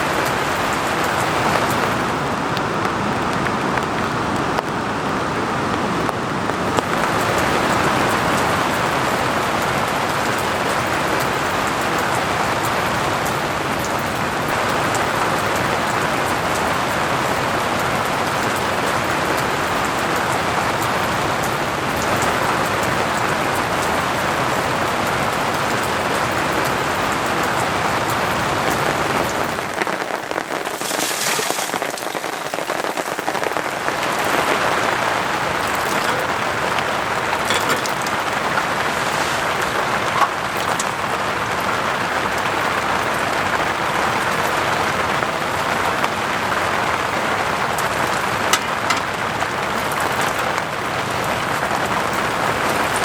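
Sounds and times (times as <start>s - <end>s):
raindrops ticking on a surface: 0.0s - 53.0s
steady rain hiss: 0.0s - 53.0s.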